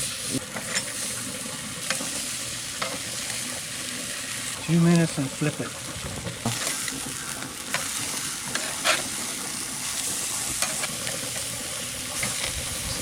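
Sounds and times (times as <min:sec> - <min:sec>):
food sizzling in frying: 0:00.0 - 0:13.0.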